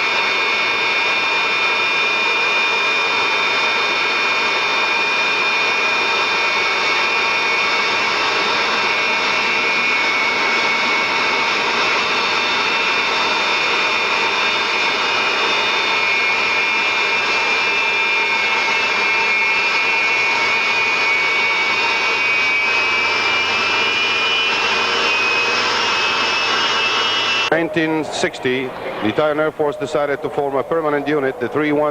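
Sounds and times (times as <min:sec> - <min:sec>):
jet engine turbine whine: 0:00.0 - 0:31.9.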